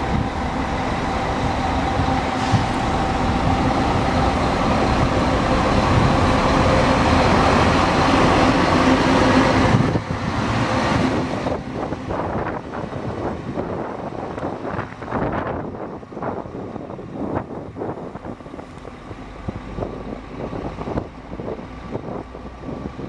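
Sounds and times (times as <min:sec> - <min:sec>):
bus diesel engine humming: 0:00.0 - 0:23.0.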